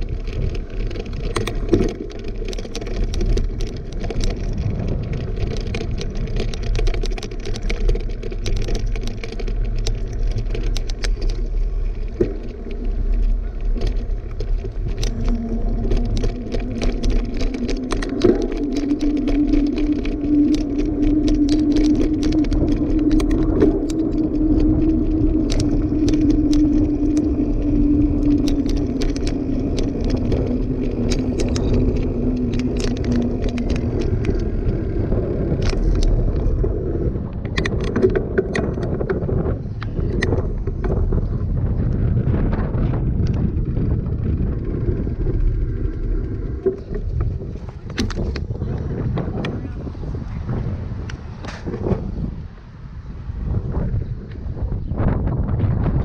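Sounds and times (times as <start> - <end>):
bike clicks and rattles: 0.0 - 56.0
bike tyres humming on pavement: 0.0 - 56.0
low rumble: 0.0 - 56.0.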